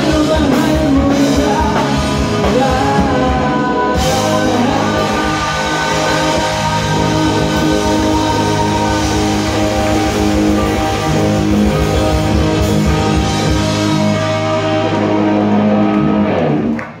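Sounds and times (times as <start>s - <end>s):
bass guitar: 0.0s - 17.0s
drum kit: 0.0s - 17.0s
electric guitars: 0.0s - 17.0s.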